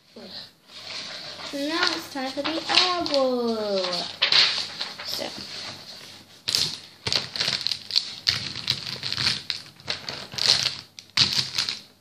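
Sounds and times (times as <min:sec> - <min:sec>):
markers rattling and clicking: 0:00.8 - 0:05.5, 0:06.5 - 0:11.9.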